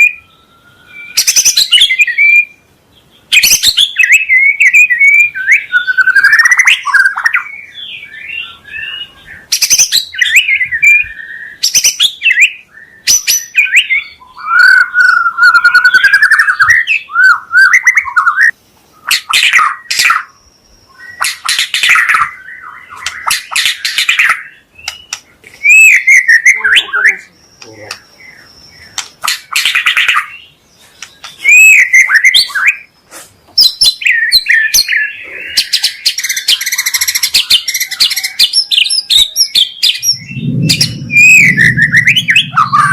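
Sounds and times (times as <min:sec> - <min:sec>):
bird singing whistled phrases: 0:00.0 - 0:02.6, 0:03.3 - 0:29.0, 0:31.3 - 0:32.9, 0:33.6 - 0:42.9.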